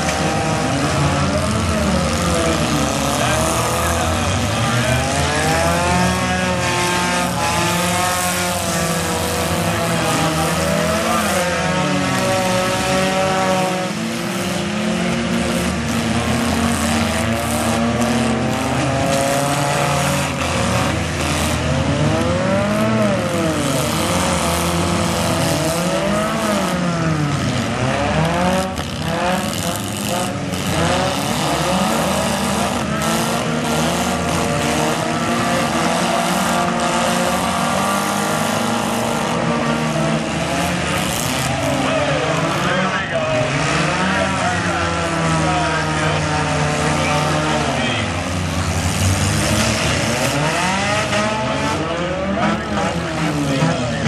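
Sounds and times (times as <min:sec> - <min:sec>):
car engines revving hard: 0:00.0 - 0:54.0.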